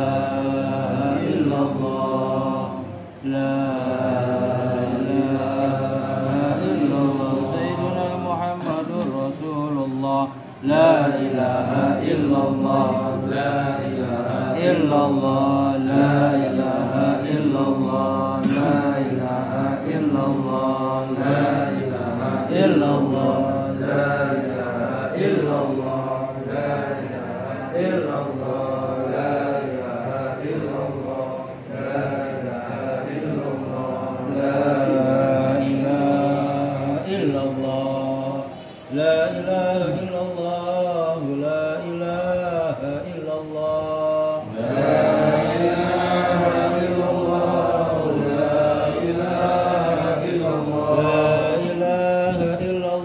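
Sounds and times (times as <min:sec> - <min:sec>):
person chanting recitation: 0:00.0 - 0:53.0.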